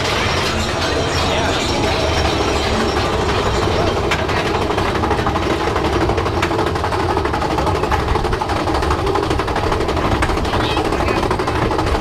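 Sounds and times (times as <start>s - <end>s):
roller coaster rattling on track: 0.0s - 12.0s.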